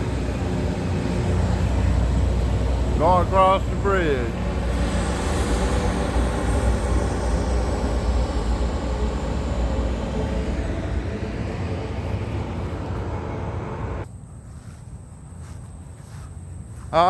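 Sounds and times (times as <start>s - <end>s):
rail grinder engine running: 0.0s - 14.0s
high whine: 0.0s - 14.1s.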